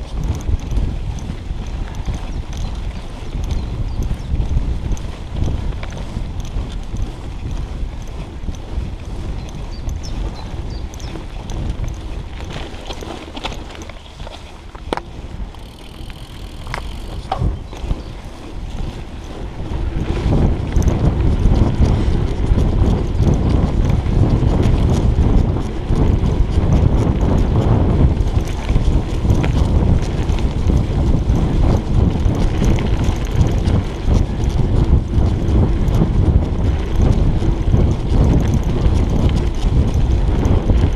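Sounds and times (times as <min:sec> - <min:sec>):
bike rattle: 0:00.0 - 0:40.9
bike tyre rolling: 0:00.0 - 0:40.9
wind on microphone: 0:00.0 - 0:40.9.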